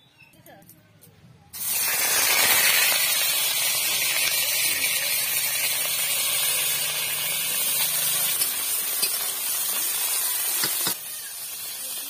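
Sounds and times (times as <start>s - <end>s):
slices sizzling in hot oil: 1.6s - 12.0s.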